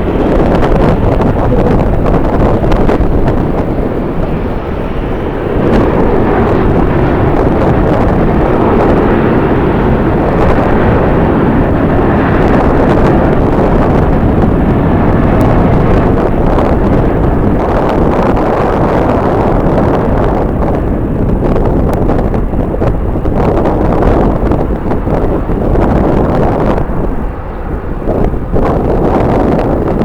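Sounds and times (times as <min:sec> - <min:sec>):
wind buffeting the microphone: 0:00.0 - 0:30.0.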